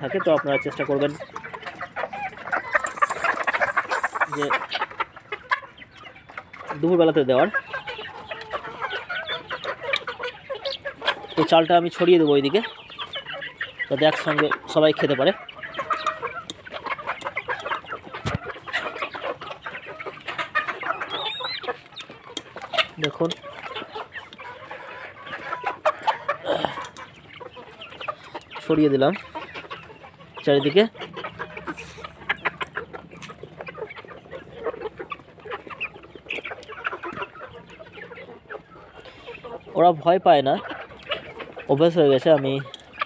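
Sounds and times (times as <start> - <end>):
hens clucking: 0.0 - 43.0.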